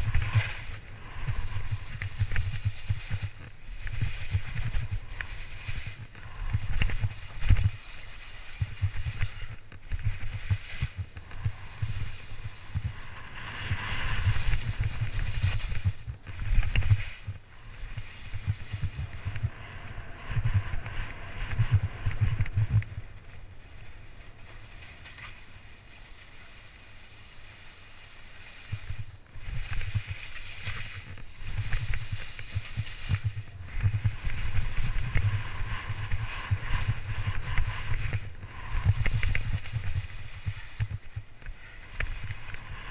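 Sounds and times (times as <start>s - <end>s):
wind buffeting microphone: 0.0s - 24.7s, 28.7s - 42.9s
skis scraping over hard snow: 0.0s - 42.9s.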